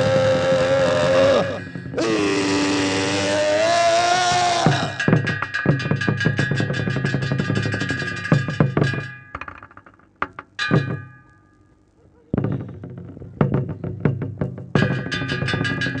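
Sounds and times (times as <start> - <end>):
drum and percussion strokes: 0.0 - 11.8, 12.4 - 16.0.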